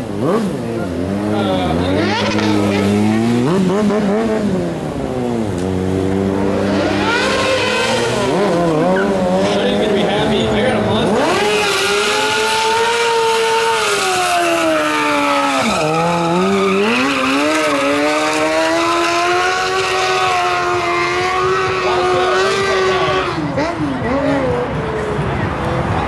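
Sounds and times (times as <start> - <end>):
sport bike engine revving: 0.0 - 26.0.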